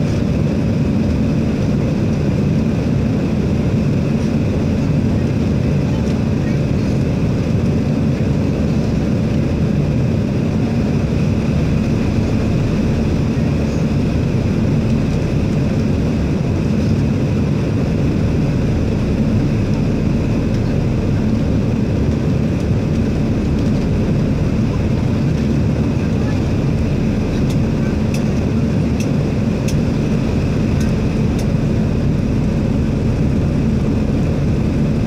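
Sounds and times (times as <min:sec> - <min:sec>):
airliner cabin engine drone: 0:00.0 - 0:35.0.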